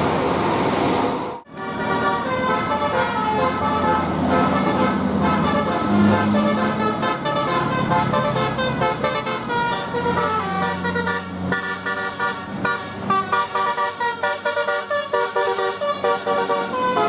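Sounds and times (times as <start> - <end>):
bus engine humming: 0.0 - 17.0
bus horn playing melody: 1.5 - 17.0.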